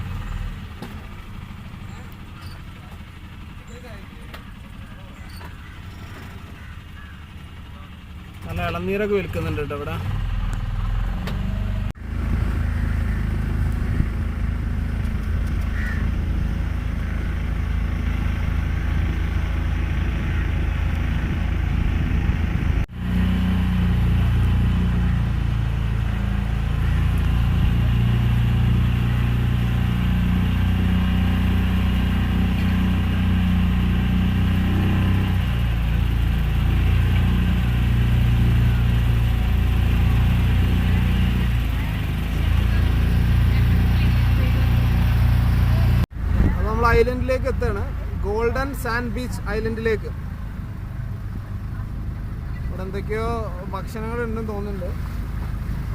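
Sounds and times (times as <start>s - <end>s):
motorboat engine humming: 0.0s - 55.9s.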